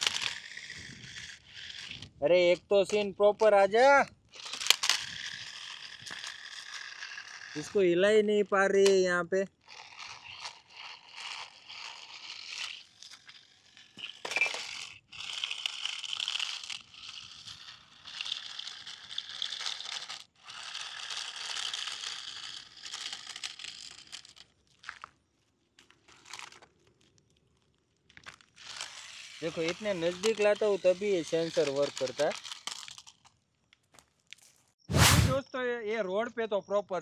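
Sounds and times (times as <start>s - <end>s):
toy car motor whirring: 0.0s - 25.1s, 25.8s - 26.7s, 28.2s - 33.4s.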